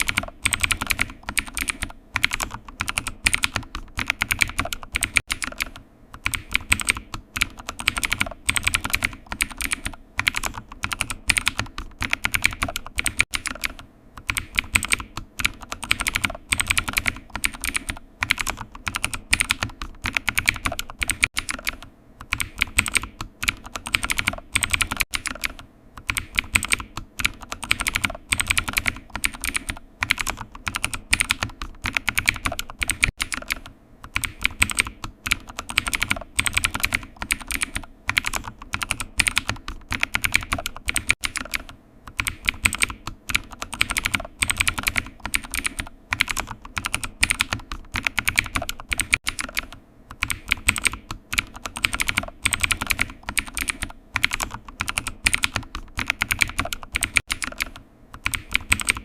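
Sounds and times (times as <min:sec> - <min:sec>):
typing on computer keyboard: 0:00.0 - 0:59.0.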